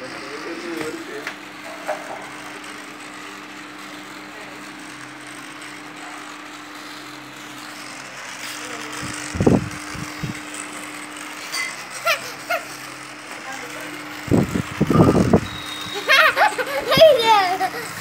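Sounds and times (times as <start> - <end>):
electric motor hum: 0.0 - 18.0.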